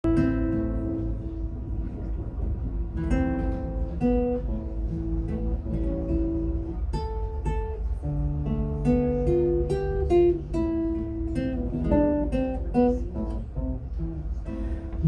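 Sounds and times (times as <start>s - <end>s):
acoustic guitar playing: 0.0s - 15.0s
steady low hum: 0.0s - 15.0s.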